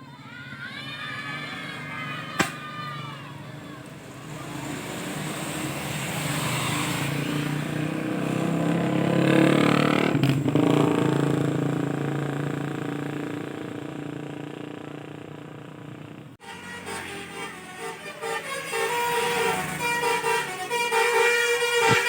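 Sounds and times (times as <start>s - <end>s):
bus driving past: 0.0s - 15.3s, 16.0s - 22.0s.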